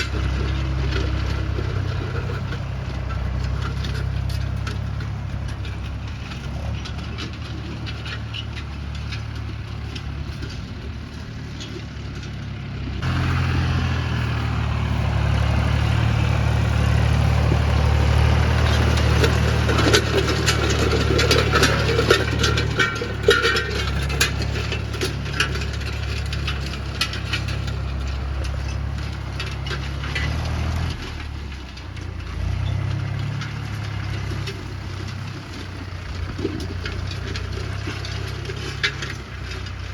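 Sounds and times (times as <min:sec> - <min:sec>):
sharp knocks and rattles: 0:00.0 - 0:39.9
tractor diesel engine running: 0:00.0 - 0:39.9.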